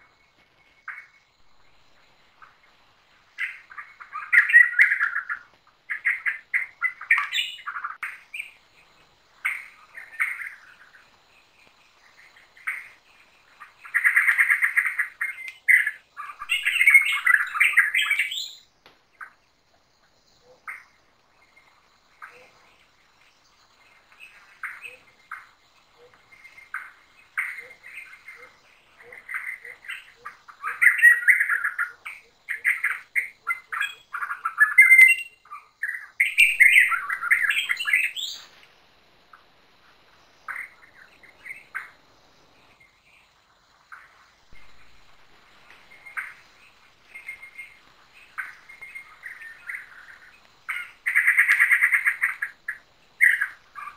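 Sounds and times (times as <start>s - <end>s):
forest birds chirping and squawking: 0.0s - 53.9s.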